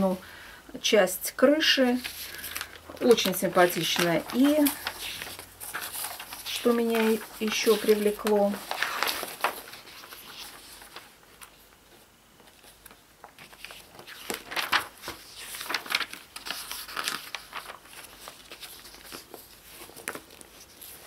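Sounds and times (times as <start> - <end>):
magazine pages rustling: 1.8 - 21.0.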